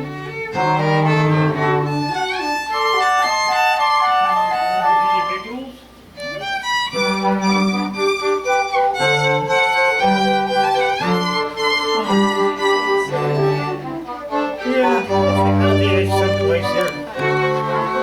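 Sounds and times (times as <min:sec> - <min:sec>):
deeper string instrument held notes: 0:00.0 - 0:18.0
violin melody: 0:00.0 - 0:18.0.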